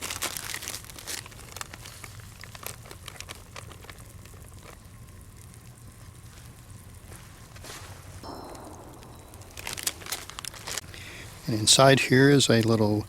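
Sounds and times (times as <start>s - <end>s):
low steady hum: 0.9s - 12.3s.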